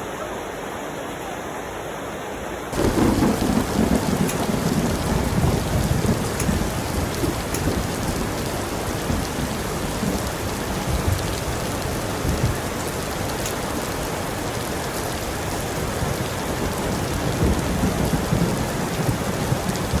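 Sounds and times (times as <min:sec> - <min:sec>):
heavy rain: 0:00.0 - 0:20.0
thunder rumbling: 0:02.8 - 0:20.0.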